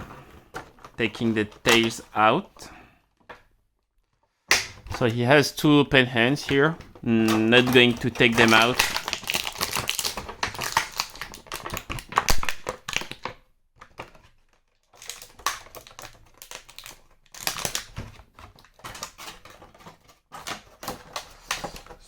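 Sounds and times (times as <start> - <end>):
plastic packaging crinkling: 0.0 - 2.6, 6.3 - 22.0.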